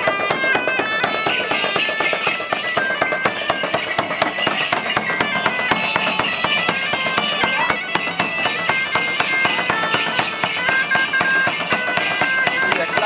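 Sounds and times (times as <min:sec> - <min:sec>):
bagpipes melody: 0:00.0 - 0:13.0
large drums beating: 0:00.0 - 0:13.0.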